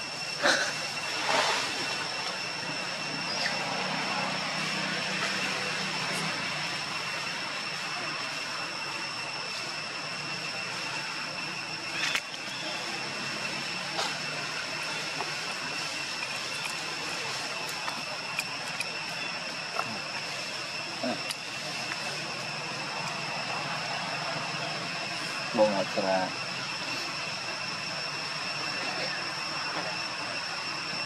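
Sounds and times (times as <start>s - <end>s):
high-pitched whine: 0.0s - 31.0s.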